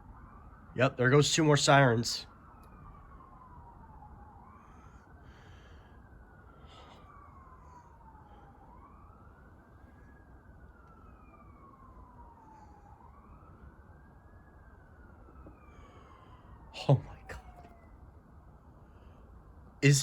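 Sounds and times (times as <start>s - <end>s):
distant emergency siren wailing: 0.0s - 20.0s.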